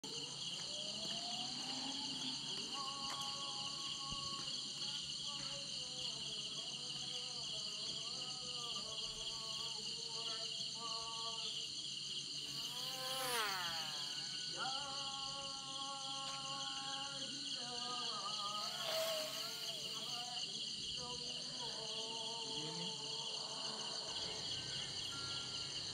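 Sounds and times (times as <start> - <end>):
crickets and insects chirping: 0.0 - 25.9.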